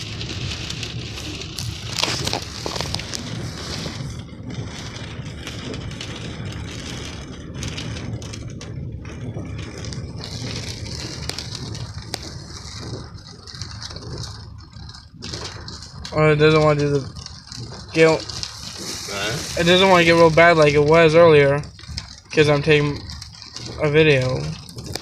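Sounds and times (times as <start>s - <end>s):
low steady rumble: 0.0s - 25.0s
rain pattering on vehicle roof: 0.0s - 25.0s.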